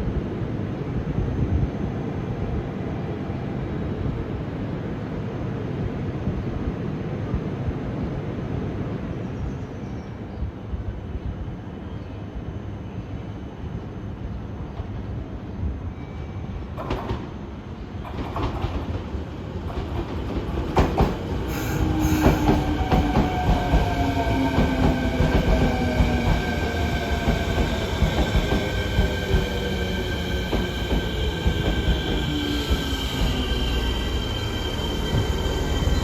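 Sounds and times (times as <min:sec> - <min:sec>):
rumble of train cars: 0:00.0 - 0:36.0.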